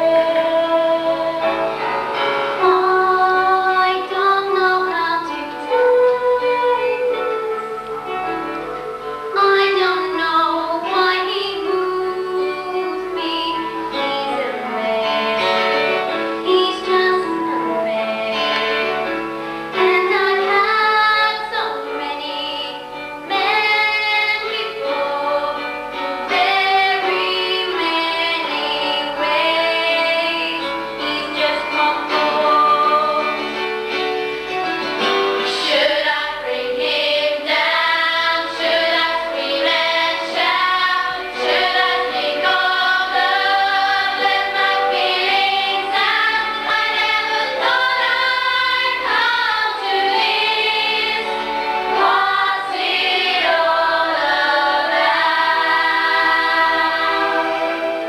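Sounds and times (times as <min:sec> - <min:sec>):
group of young singers singing: 0:00.0 - 0:33.6, 0:35.0 - 0:58.0.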